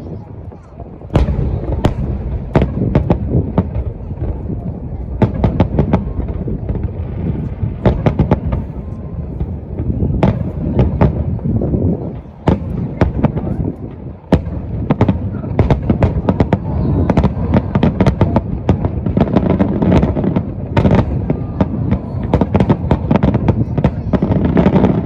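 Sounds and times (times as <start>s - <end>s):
low rumble of booms: 0.0s - 25.0s.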